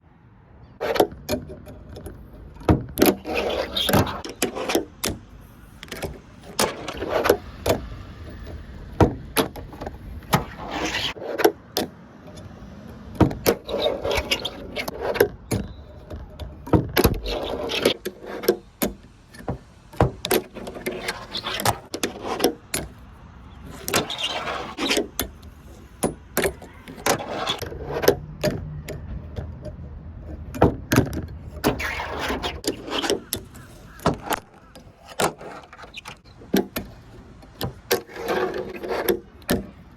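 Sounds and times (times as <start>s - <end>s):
fingerboard wheels rolling: 0.7s - 39.9s.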